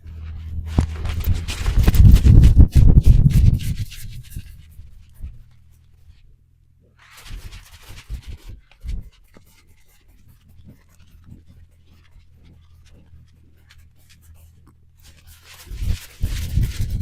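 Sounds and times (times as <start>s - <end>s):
dog rustling and scratching: 0.0s - 6.3s, 7.0s - 17.0s
steady low hum: 0.0s - 17.0s.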